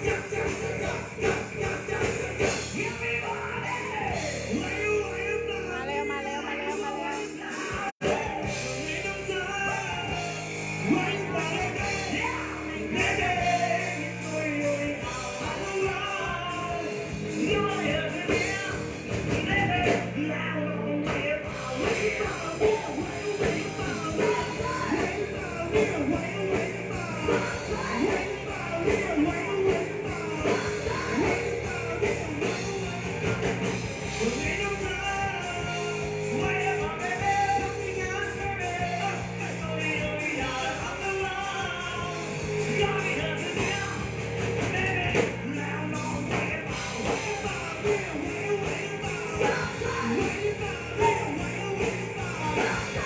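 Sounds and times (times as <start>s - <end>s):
drums: 0.0s - 53.0s
electric guitar: 0.0s - 53.0s
person singing: 0.0s - 53.0s.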